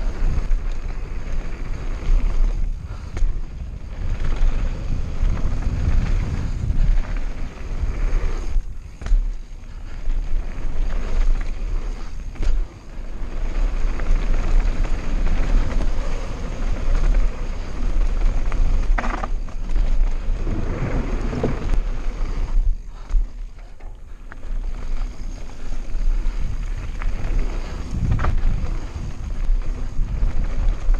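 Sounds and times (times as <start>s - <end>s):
bike knocking and rattling: 0.0s - 30.9s
tyres rumbling on dirt: 0.0s - 30.9s
wind buffeting microphone: 0.0s - 30.9s.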